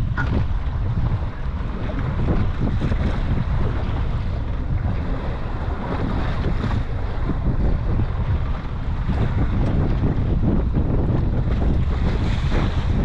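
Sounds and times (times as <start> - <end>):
waves washing against boat hull: 0.0 - 13.0
wind blowing across microphone: 0.0 - 13.0.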